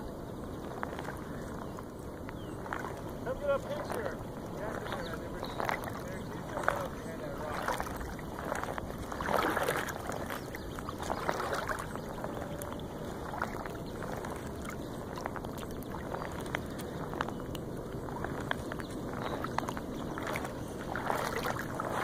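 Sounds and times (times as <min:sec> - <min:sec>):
river water lapping and splashing: 0:00.0 - 0:22.0.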